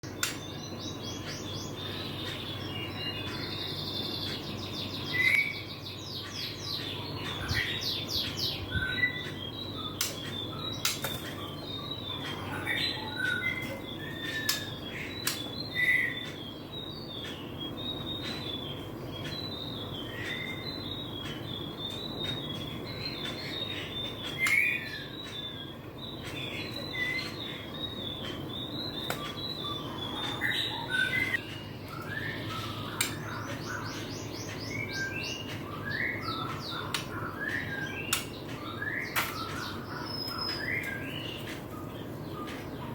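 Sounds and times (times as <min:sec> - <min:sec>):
young bird chirping: 0:00.1 - 0:42.9.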